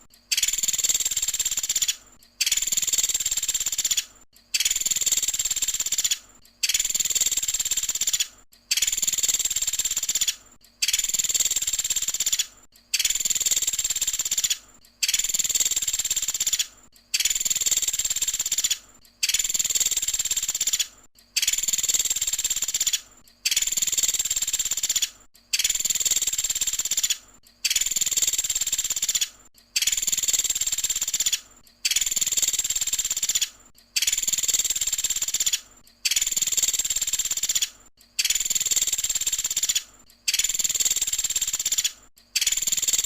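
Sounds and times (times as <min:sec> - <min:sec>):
woodpecker rapid trill: 0:00.3 - 0:43.0.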